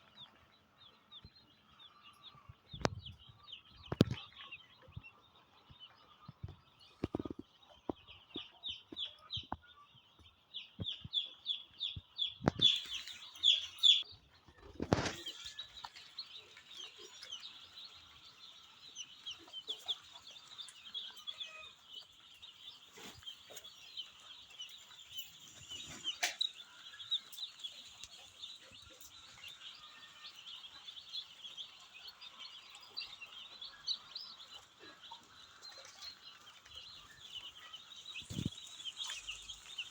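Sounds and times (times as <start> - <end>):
chickens cheeping: 0.0 - 39.9.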